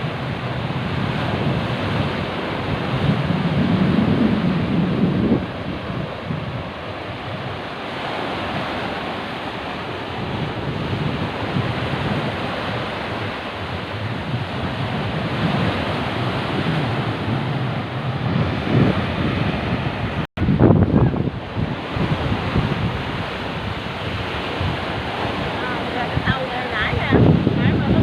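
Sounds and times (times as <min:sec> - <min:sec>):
waves surging and breaking: 0:00.0 - 0:28.0
wind buffeting microphone: 0:00.0 - 0:28.0.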